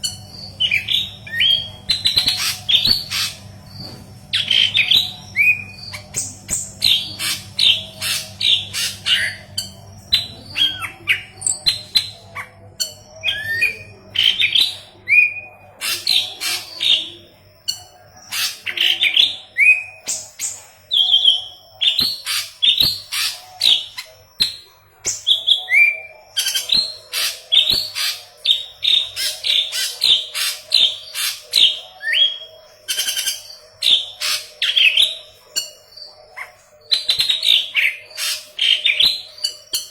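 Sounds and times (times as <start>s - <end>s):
bird singing chirps and whistles: 0.0s - 36.2s, 36.8s - 39.9s.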